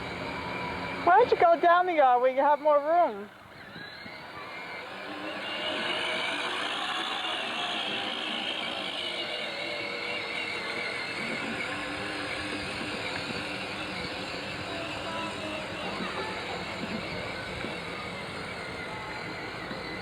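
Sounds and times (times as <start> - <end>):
ride-on tractor motor running: 0.0 - 20.0.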